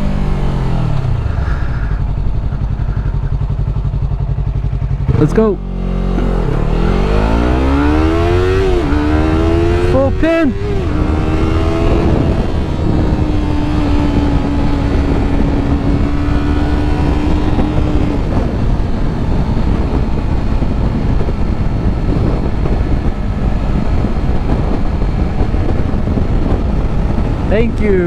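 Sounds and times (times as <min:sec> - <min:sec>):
motorcycle engine at high revs: 0:00.0 - 0:28.0
wind rush on microphone: 0:00.0 - 0:28.0.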